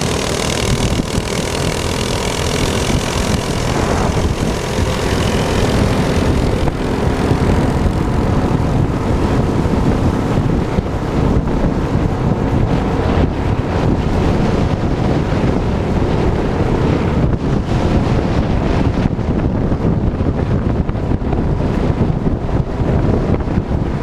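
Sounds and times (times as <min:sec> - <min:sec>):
small engine running: 0:00.0 - 0:24.0
wind on microphone: 0:00.0 - 0:24.0.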